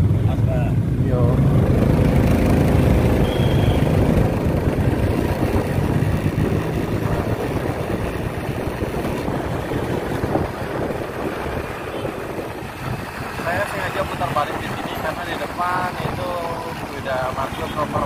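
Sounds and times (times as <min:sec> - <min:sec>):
motorcycle engine hum: 0:00.0 - 0:18.0
wind rushing over microphone: 0:00.0 - 0:18.0.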